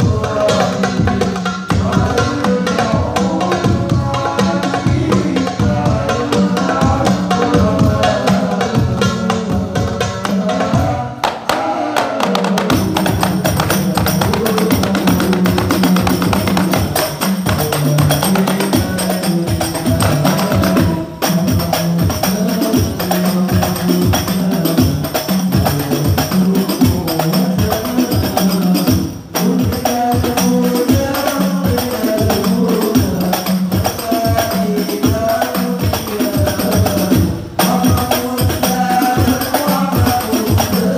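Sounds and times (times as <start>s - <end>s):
frame drums and darbuka rhythm: 0.0s - 40.9s
person singing: 0.0s - 40.9s.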